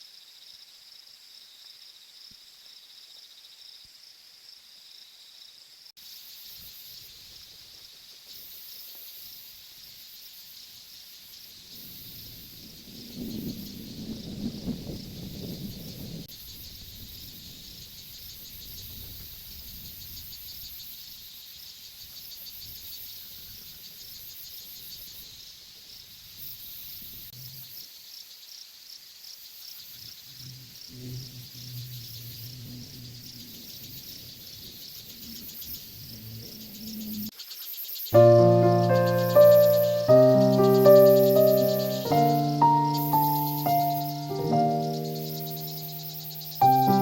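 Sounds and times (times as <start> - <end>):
crickets and insects chirping: 0.0 - 47.0.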